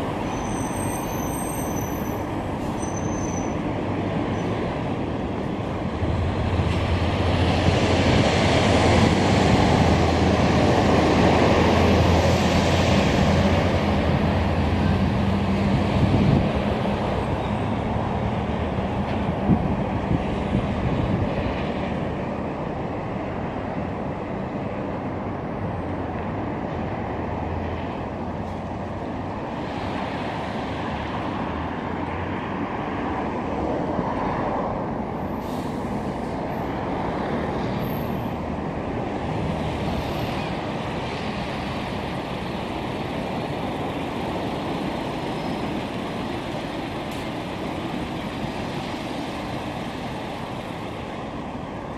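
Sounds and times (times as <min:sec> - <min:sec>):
road traffic rushing: 0:00.0 - 0:51.9.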